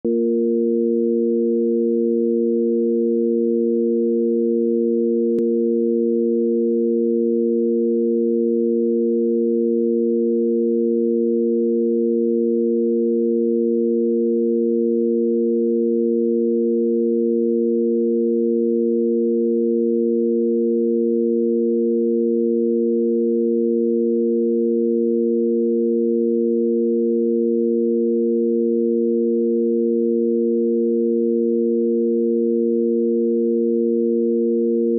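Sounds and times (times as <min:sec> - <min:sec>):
electronic sine tone drone: 0:00.0 - 0:34.9.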